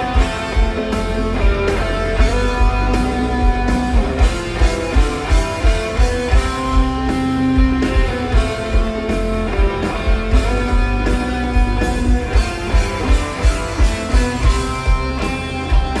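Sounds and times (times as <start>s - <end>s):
electric guitars: 0.0s - 16.0s
live rock band playing: 0.0s - 16.0s.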